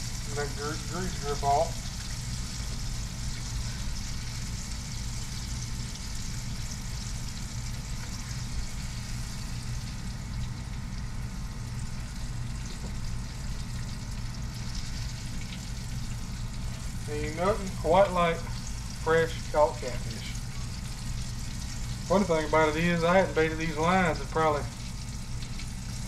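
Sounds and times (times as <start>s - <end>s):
fish frying in hot oil: 0.0s - 26.0s
low steady hum: 0.0s - 26.0s.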